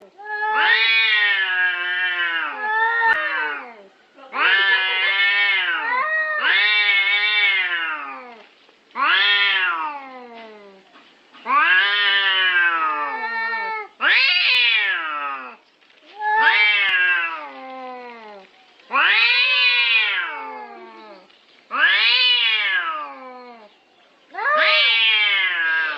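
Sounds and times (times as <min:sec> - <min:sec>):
cats yowling: 0:00.2 - 0:08.4, 0:09.0 - 0:23.7, 0:24.3 - 0:25.9.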